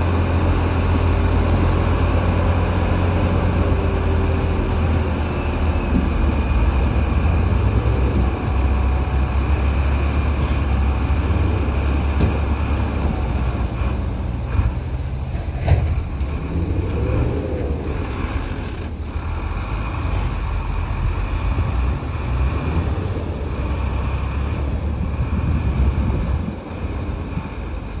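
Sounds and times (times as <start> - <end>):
diesel machinery rumbling: 0.0 - 28.0.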